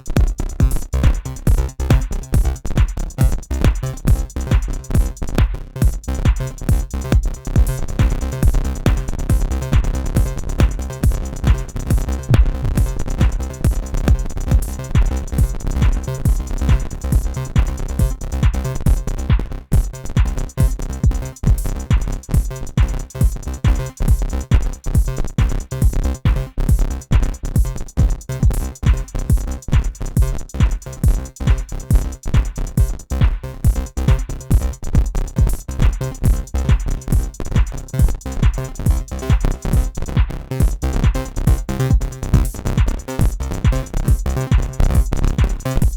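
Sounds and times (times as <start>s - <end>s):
drum machine beat: 0.0s - 45.9s
heavy synth bass line: 0.0s - 45.9s.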